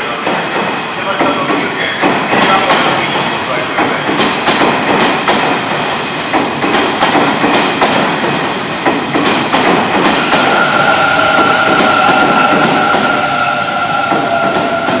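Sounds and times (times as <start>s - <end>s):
train rumble: 0.0s - 15.0s
train wheels clacking over rail joints: 0.0s - 15.0s.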